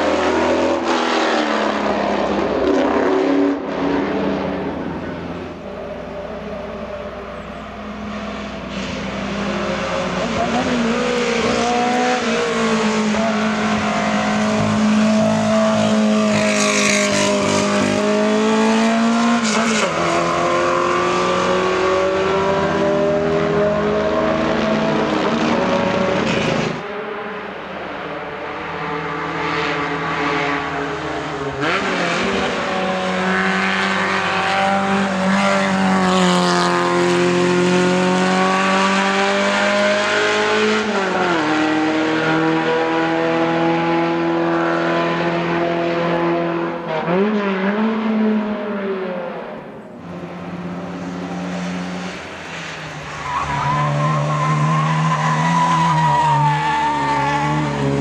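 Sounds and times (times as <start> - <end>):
race car engine revving: 0.0 - 58.0
race car passing: 0.0 - 58.0.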